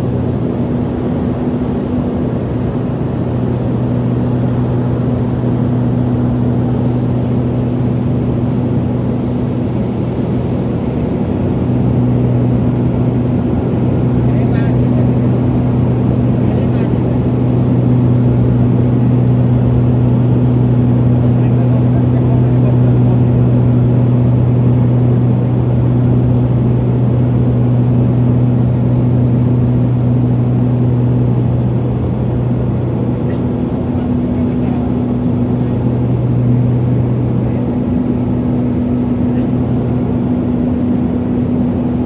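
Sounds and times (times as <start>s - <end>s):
propeller drone: 0.0s - 42.0s.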